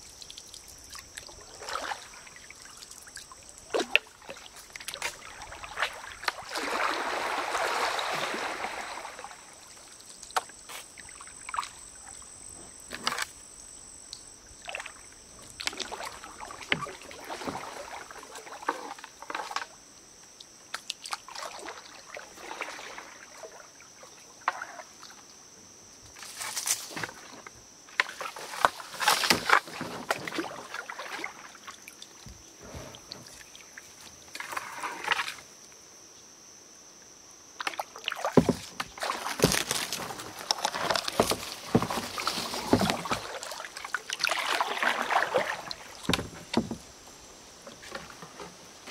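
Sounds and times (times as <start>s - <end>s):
paddle water swishing and splashing: 0.0s - 12.2s, 14.6s - 19.8s, 20.9s - 25.2s, 26.3s - 35.4s, 37.6s - 48.9s.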